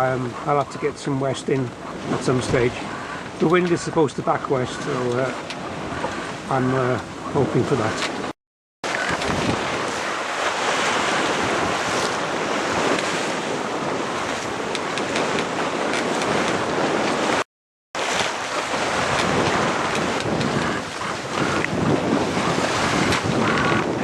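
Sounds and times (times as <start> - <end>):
wind buffeting microphone: 0.0 - 17.4, 18.0 - 24.0
waves splashing along hull: 0.0 - 24.0.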